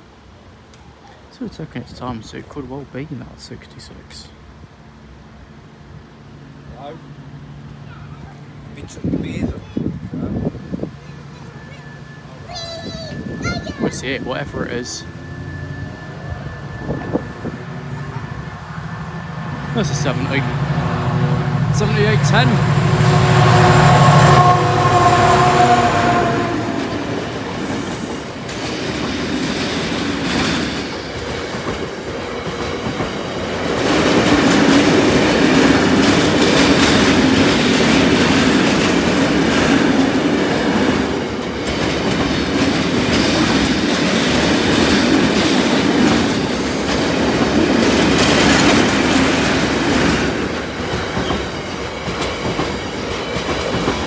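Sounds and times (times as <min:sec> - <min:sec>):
diesel locomotive engine passing: 0:00.0 - 0:54.0.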